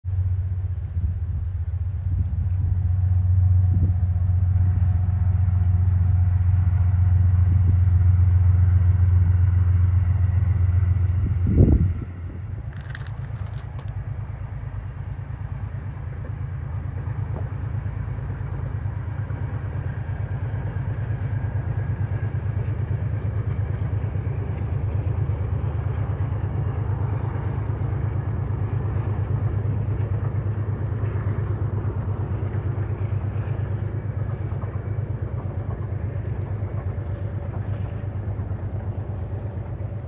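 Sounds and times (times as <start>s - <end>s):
low engine rumble: 0.0s - 40.0s.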